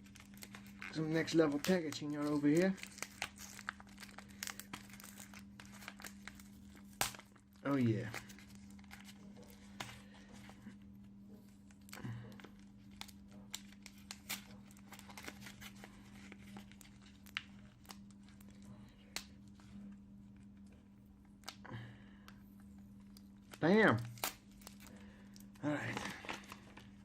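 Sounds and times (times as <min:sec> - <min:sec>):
packaging torn and crumpled: 0:00.0 - 0:10.0, 0:11.6 - 0:19.8, 0:23.0 - 0:27.0
steady low hum: 0:00.0 - 0:27.0.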